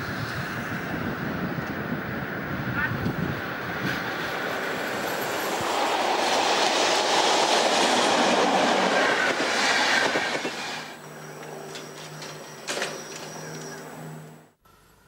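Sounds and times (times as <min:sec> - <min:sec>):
train wheels rolling on rail: 0:00.0 - 0:14.1.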